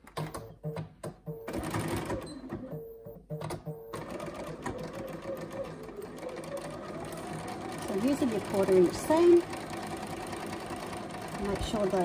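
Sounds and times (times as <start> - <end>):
sewing machine stitching: 1.5 - 2.8, 3.4 - 12.0.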